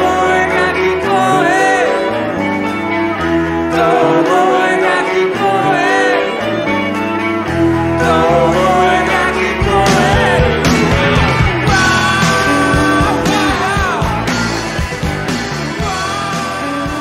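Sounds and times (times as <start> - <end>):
bending lead guitar line: 0.0 - 17.0
rock band playing live: 0.0 - 17.0.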